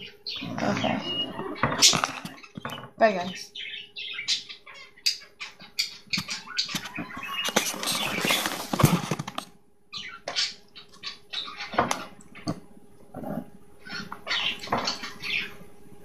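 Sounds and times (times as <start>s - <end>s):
finches chirping: 0.0s - 8.7s, 9.9s - 12.5s, 13.8s - 15.7s.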